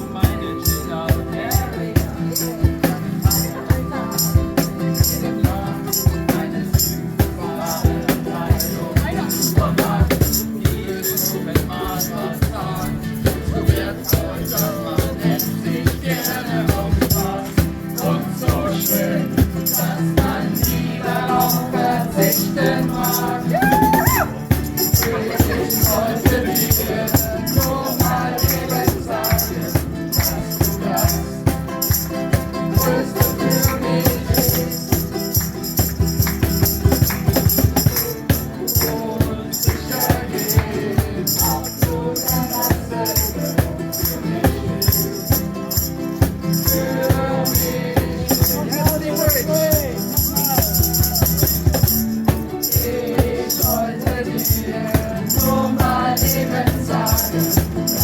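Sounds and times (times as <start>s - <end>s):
people singing along: 0.0s - 58.0s
rattling shaker beat: 0.0s - 58.0s
ukulele strummed chords: 0.0s - 58.0s.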